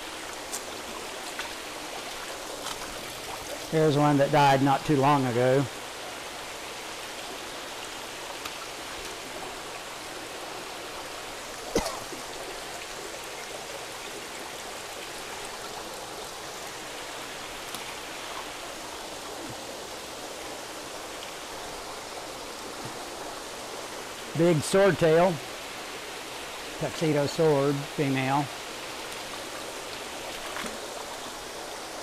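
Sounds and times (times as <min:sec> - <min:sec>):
running water in pipes: 0:00.0 - 0:32.0.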